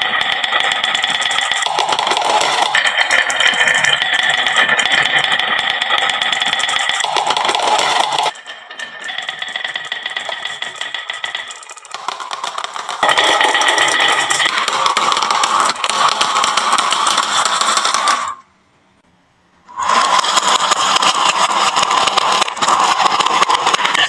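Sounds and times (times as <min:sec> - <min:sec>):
marbles clattering down wooden run: 0:00.0 - 0:18.4, 0:19.8 - 0:24.0.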